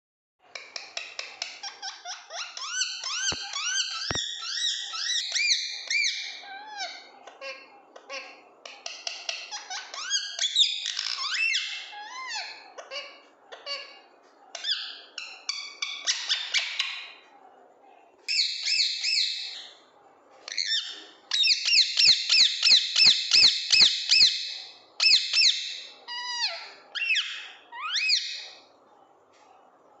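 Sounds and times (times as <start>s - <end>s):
parrot chirping: 0.7s - 17.2s, 18.3s - 19.8s, 20.5s - 28.7s.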